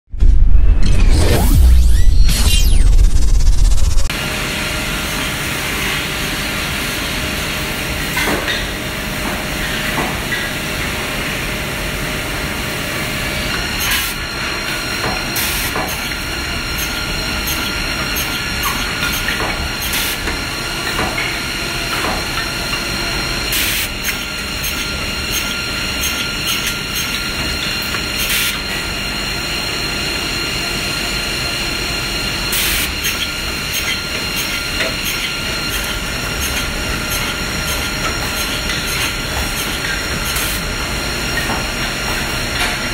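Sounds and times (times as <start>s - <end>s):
saw machine running: 0.3s - 8.0s, 11.5s - 42.9s.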